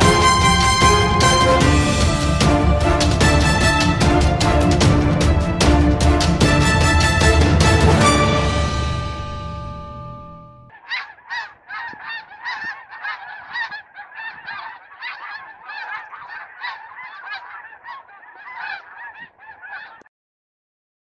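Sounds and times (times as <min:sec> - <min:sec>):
geese honking: 0:00.0 - 0:09.9, 0:10.7 - 0:20.1.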